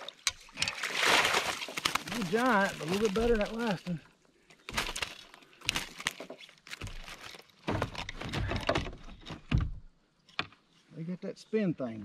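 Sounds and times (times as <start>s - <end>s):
fishing gear rattling against kayak: 0.0s - 10.7s.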